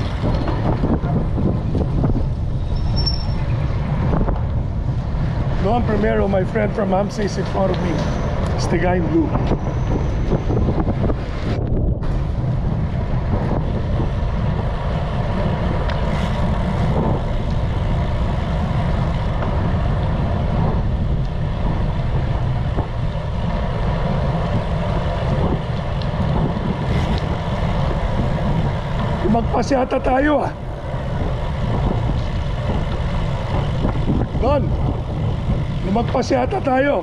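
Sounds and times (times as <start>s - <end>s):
road and traffic noise: 0.0s - 37.0s
wind buffeting microphone: 0.0s - 37.0s.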